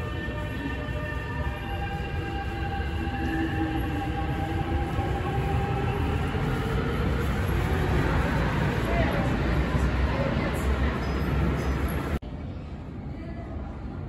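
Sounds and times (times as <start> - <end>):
train traction motors whining: 0.0 - 12.2
train wheel rumble: 0.0 - 12.2.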